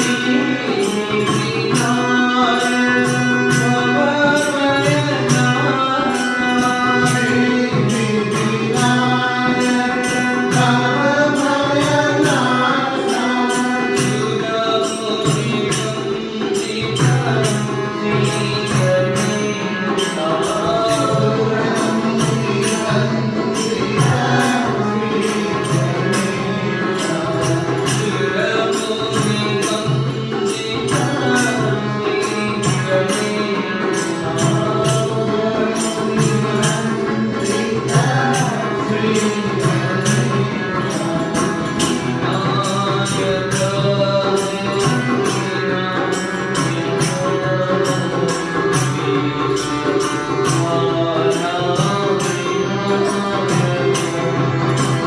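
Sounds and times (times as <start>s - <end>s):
devotional singing: 0.0s - 55.0s
jingling percussion beat: 0.0s - 55.0s.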